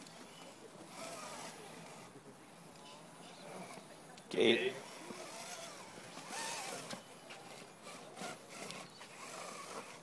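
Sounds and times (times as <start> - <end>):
toy car tyres scraping on rock: 0.0 - 10.0.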